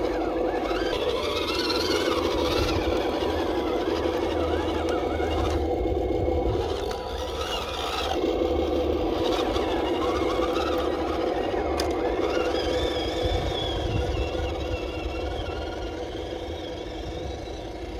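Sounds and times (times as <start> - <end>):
toy truck motor whining: 0.0 - 17.9.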